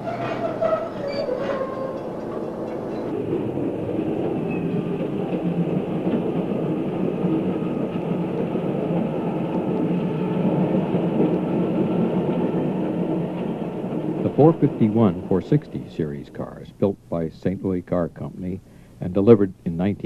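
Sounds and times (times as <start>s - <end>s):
railcar wheels rumbling on rails: 0.0s - 16.7s.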